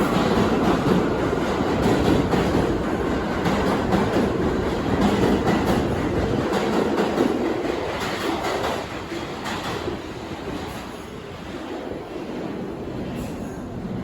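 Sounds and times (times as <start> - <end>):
steel wheels on subway track: 0.0 - 14.0.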